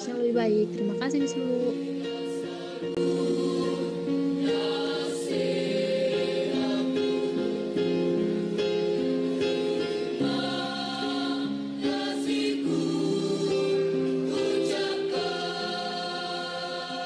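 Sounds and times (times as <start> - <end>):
music with long held chords: 0.0 - 17.0.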